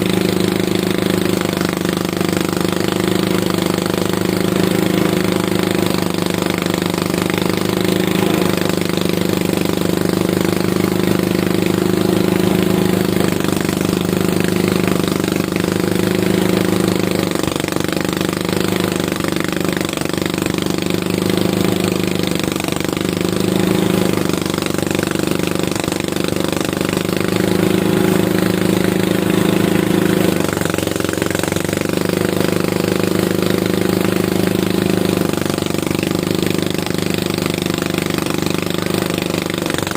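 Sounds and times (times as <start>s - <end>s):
harvesting machine engine running: 0.0s - 39.9s.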